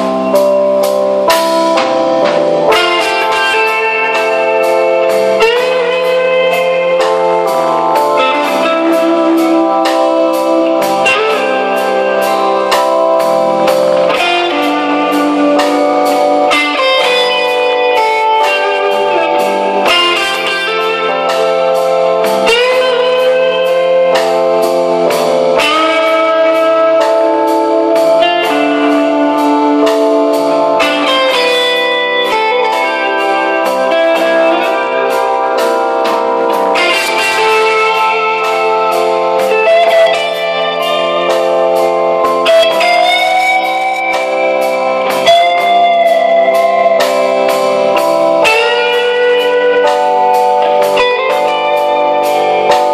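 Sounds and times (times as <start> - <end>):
bass guitar: 0.0 - 52.9
drum kit cymbal beat: 0.0 - 52.9
electric guitar lead melody: 0.0 - 52.9.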